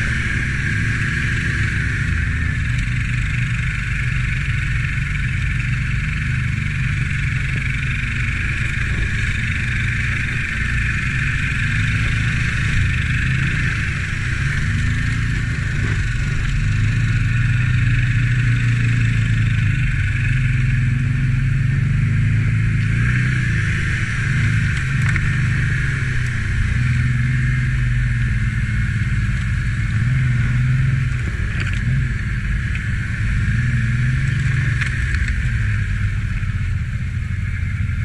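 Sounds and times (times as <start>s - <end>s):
atv engine running: 0.0s - 38.0s.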